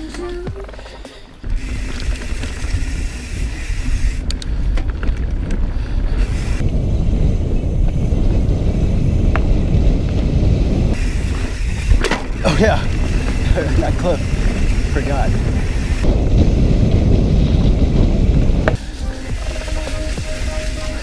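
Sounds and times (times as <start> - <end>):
bike clicks and rattles: 0.0 - 21.0
tyres rolling on dirt: 0.1 - 21.0
wind on microphone: 1.4 - 21.0.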